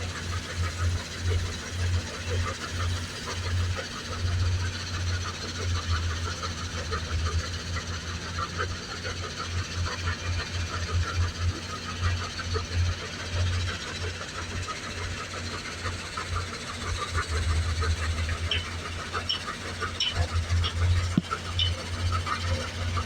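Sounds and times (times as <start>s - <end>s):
low engine drone: 0.0s - 23.0s
machinery clatter and rattling: 0.0s - 23.0s.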